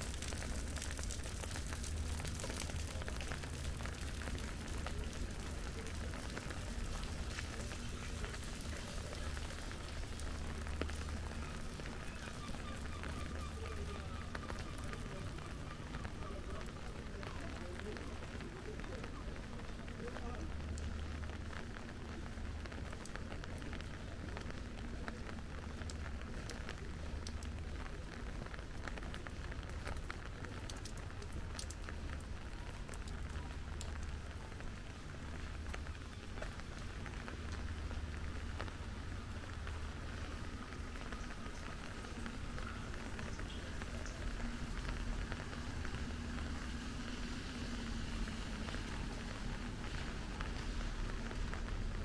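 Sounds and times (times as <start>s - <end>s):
rain falling: 0.0s - 52.0s
raindrops ticking: 0.0s - 52.0s.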